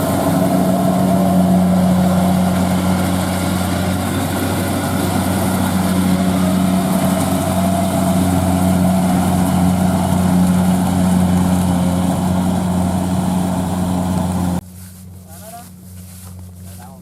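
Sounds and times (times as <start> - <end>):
diesel engine running: 0.0 - 14.6.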